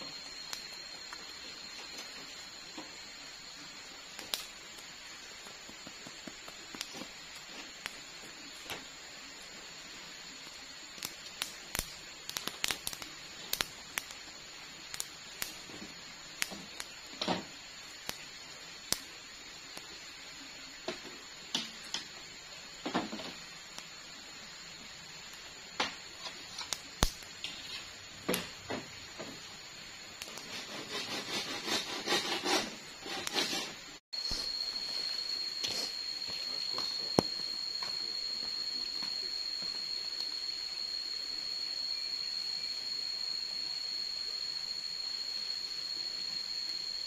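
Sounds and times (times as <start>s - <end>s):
crackles and pops from embers: 0.0s - 42.5s
steady high whine: 0.0s - 47.0s.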